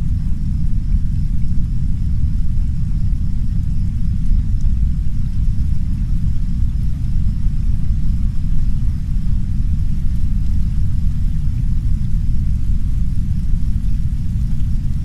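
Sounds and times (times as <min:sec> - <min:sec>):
deep brown noise rumble: 0:00.0 - 0:15.0
soft rain hiss: 0:00.0 - 0:15.0.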